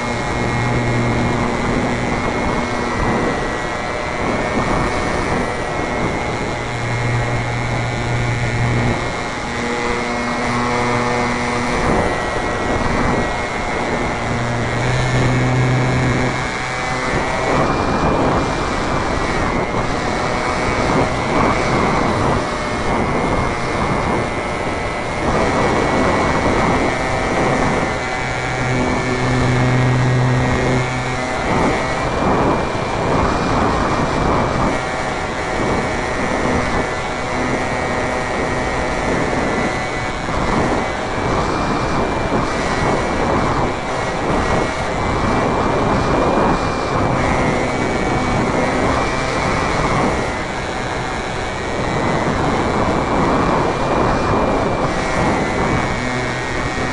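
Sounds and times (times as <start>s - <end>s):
low hum: 0.0s - 56.9s
model plane motor high tone: 0.0s - 56.9s
rushing air noise: 0.0s - 56.9s.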